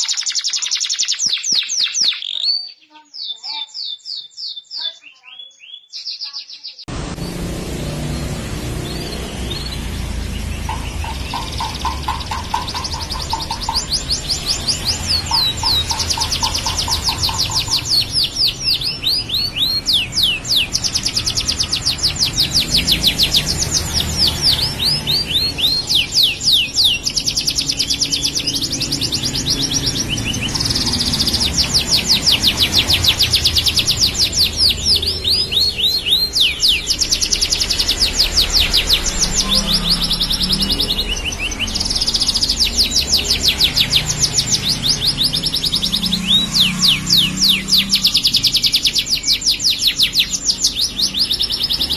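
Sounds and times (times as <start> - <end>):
canary singing: 0.0 - 51.9.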